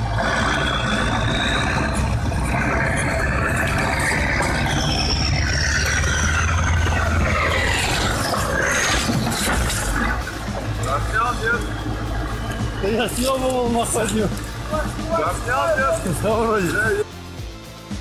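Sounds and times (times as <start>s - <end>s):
high whine rising in pitch: 0.0s - 17.0s
vehicle engine low rumble: 0.0s - 17.6s.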